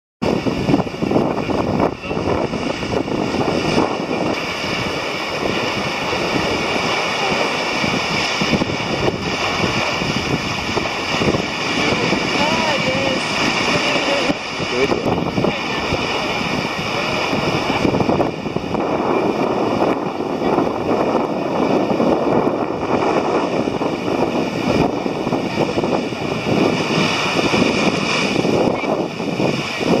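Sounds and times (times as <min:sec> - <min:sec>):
sea water rushing along hull: 0:00.2 - 0:30.0
wind buffeting microphone: 0:00.2 - 0:30.0.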